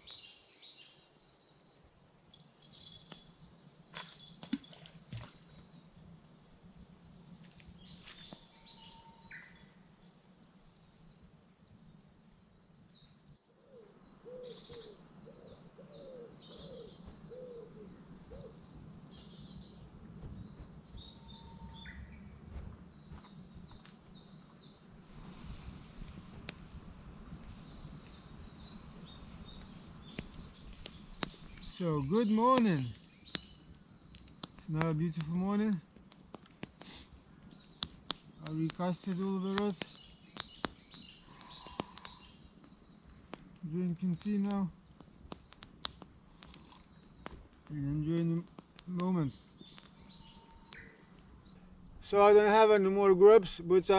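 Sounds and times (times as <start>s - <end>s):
high insect buzz: 0.0s - 53.2s
lower evenly spaced bird notes: 0.0s - 53.9s
songbirds chirping: 0.0s - 53.9s.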